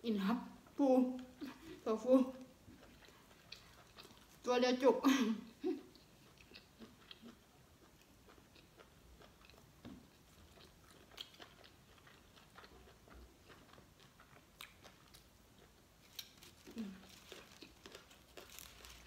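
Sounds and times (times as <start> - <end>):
person chewing: 1.2 - 4.5, 5.6 - 19.0.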